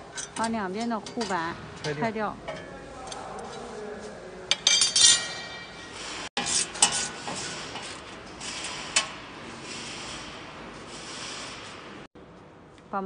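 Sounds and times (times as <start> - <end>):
metal plates clinking and scraping: 0.0 - 3.8, 4.5 - 11.6.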